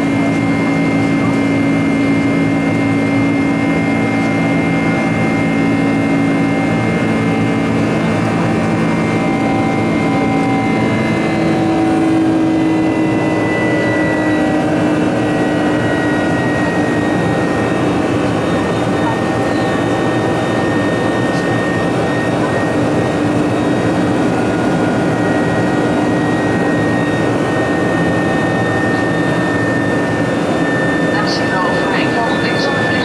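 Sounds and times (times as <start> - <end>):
jet engine noise in cabin: 0.0 - 33.0.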